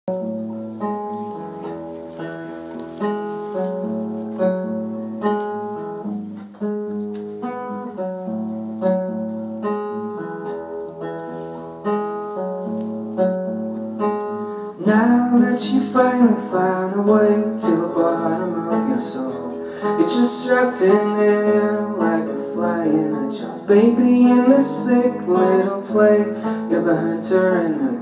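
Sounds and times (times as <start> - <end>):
acoustic guitar picking: 0.1 - 28.0.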